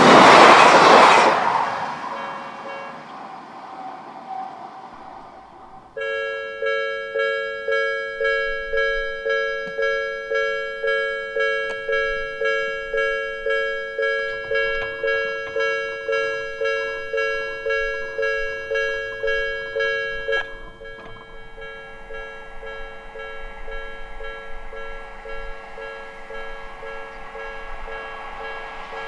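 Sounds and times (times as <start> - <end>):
level crossing warning bell ringing: 2.1 - 3.1, 5.0 - 29.0.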